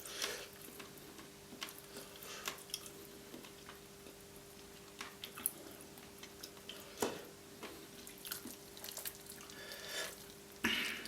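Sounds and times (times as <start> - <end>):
wet chewing and mouth sounds: 0.0 - 10.4
low steady hum: 0.0 - 11.0.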